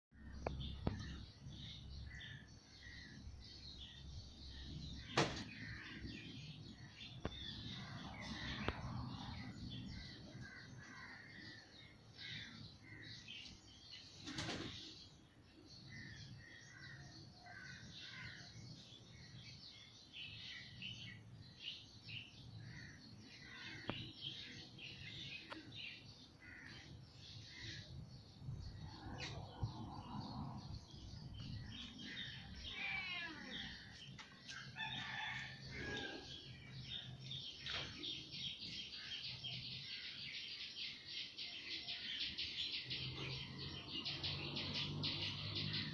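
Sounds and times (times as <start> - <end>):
birds chirping and calling: 0.2 - 45.9.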